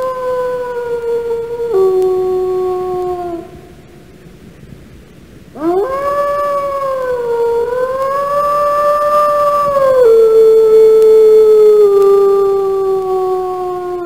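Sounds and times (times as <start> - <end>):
wolf howling: 0.0 - 3.8, 5.5 - 14.0.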